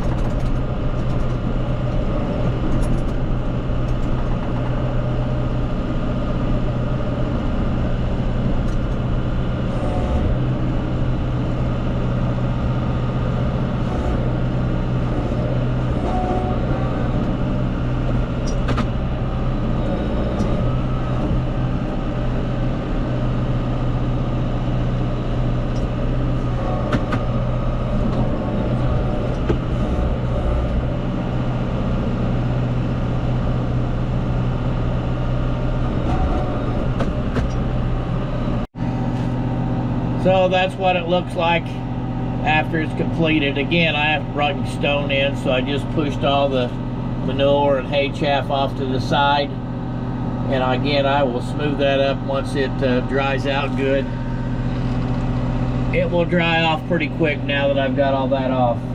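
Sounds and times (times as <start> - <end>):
farm machine engine running: 0.0 - 58.9.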